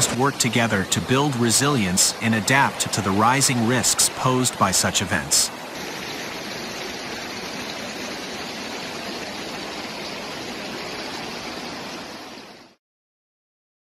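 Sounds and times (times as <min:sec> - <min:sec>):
floodwater rushing: 0:00.0 - 0:12.8.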